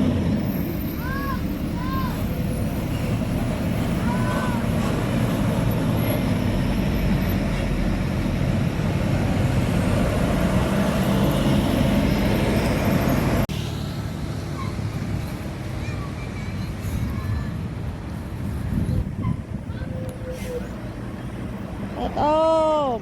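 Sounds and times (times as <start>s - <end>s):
diesel bus engine running: 0.0s - 22.1s
road traffic: 0.0s - 23.0s.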